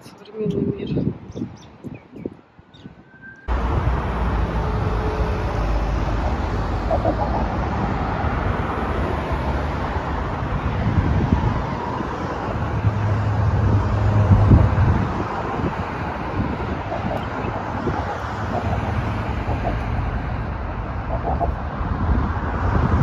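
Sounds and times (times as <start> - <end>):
traffic passing: 0.0 - 23.0
wind noise on microphone: 0.0 - 23.0
vehicle engine hum: 3.3 - 23.0.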